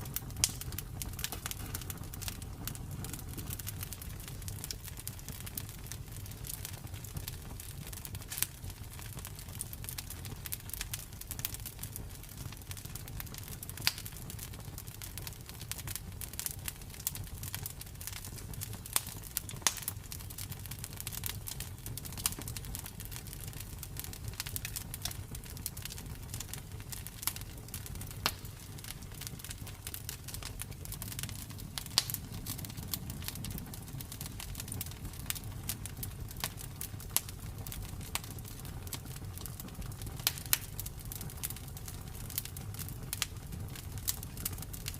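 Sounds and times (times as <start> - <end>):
campfire rumble: 0.0 - 44.9
wood crackling and popping: 0.0 - 44.9.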